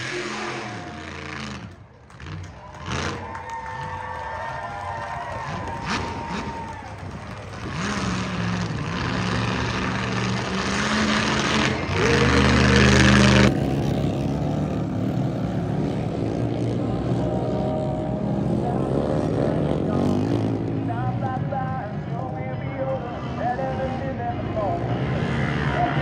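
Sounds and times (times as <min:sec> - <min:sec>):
large vehicle engine revving: 0:00.0 - 0:26.0.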